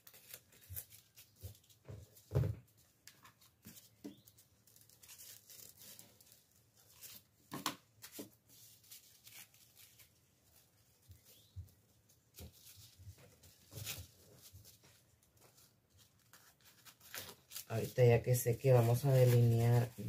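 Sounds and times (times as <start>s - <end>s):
paper rustling and crinkling: 0.0s - 20.0s.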